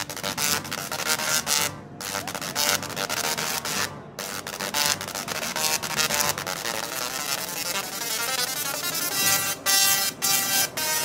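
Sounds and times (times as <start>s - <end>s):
singing tesla coils buzzing tune: 0.0s - 11.0s.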